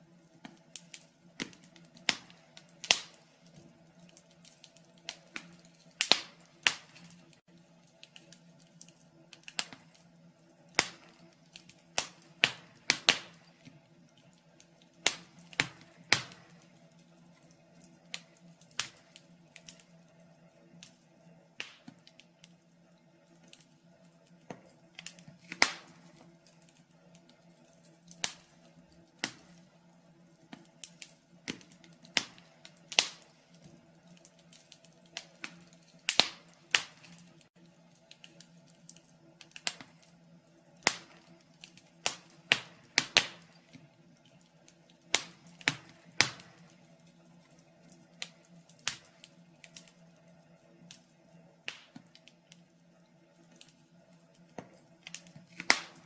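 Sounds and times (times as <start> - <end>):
faint steady hum: 0.0 - 56.0
wood fire crackling: 0.0 - 56.0.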